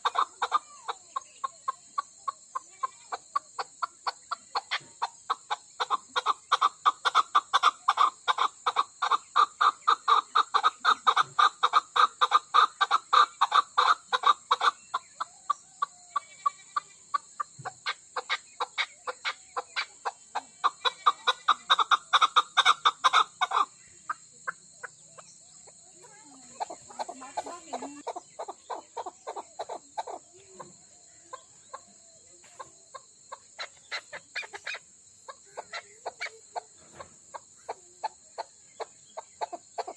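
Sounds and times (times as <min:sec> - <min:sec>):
partridge clucking calls: 0:00.0 - 0:39.9.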